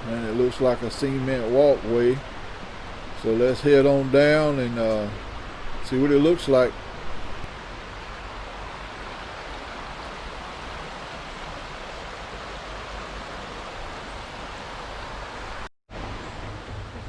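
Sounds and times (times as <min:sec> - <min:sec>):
water rushing in a creek: 0:00.0 - 0:17.0.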